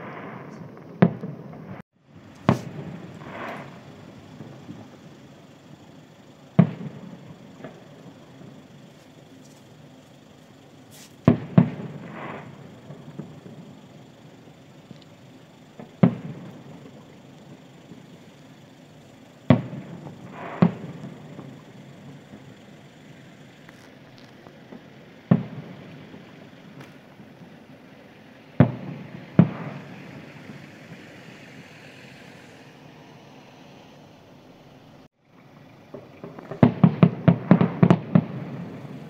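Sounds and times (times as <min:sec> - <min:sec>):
distant firework bangs: 0:00.0 - 0:05.4, 0:06.5 - 0:10.0, 0:10.8 - 0:18.6, 0:19.4 - 0:32.7, 0:35.9 - 0:39.0.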